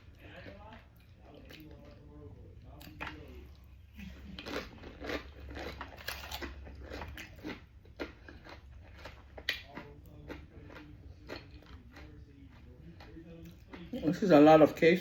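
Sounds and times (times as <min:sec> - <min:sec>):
person chewing crunchy food: 0:00.0 - 0:14.4.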